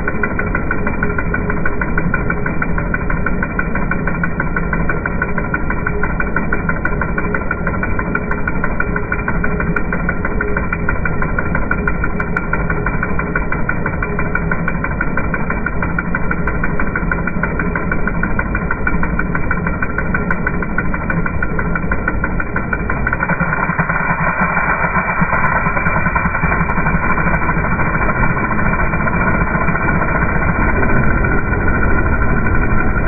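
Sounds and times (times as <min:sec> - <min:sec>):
engine idling: 0:00.0 - 0:33.0
fuel injectors ticking: 0:00.0 - 0:33.0.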